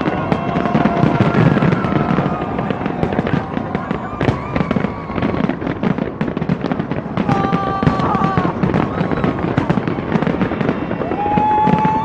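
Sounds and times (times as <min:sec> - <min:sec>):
crowd voices: 0:00.0 - 0:12.0
fireworks bangs and crackles: 0:00.0 - 0:12.0.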